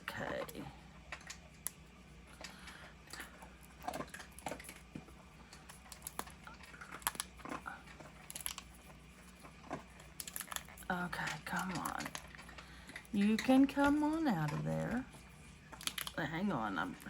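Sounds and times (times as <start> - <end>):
silicone mold clicks and crackles: 0.0 - 17.0.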